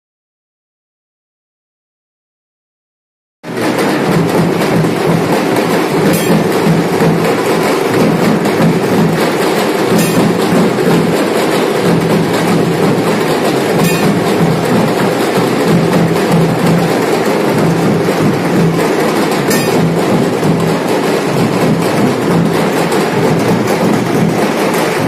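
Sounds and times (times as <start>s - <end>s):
dhol drums beating: 3.5s - 25.0s
snare drums beating fast: 3.5s - 25.0s.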